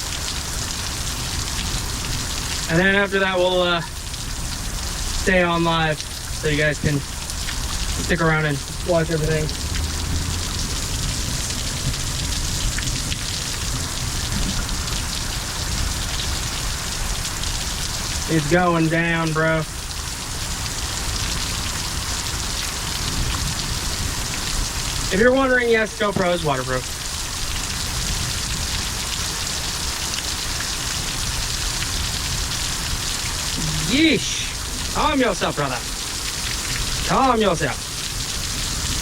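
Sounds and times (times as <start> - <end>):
heavy rain downpour: 0.0 - 39.0.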